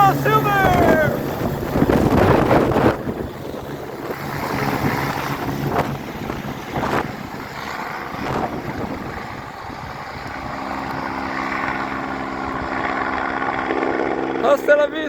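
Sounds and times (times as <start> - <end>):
wind buffeting microphone: 0.0 - 14.4
helicopter engines and rotor: 0.0 - 15.0.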